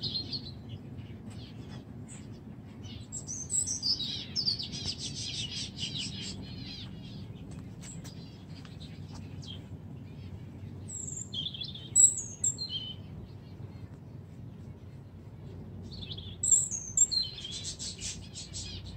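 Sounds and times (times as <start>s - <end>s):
small birds singing: 0.0s - 18.9s.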